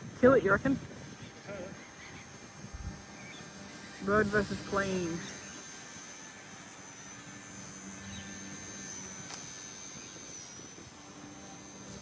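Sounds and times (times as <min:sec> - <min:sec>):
rotor hum: 0:00.0 - 0:12.0
toy helicopter motor whine: 0:00.0 - 0:12.0.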